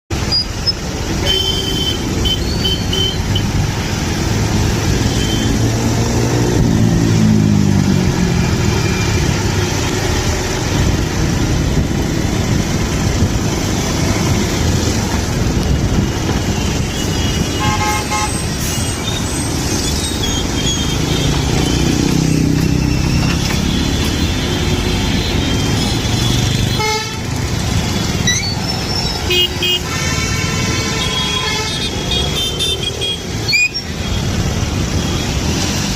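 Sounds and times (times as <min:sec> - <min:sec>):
traffic engines running: 0:00.1 - 0:35.9.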